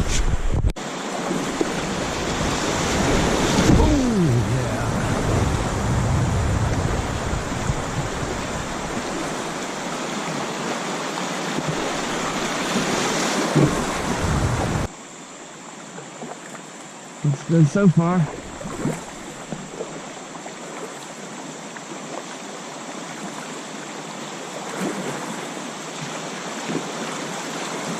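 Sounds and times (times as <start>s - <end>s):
river water rushing over rapids: 0.8s - 15.9s, 16.6s - 27.9s.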